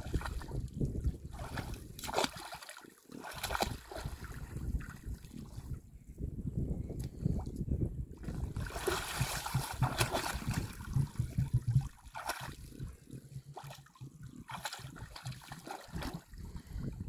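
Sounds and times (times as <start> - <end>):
muddy water splashing: 0.0 - 5.7, 8.2 - 17.0.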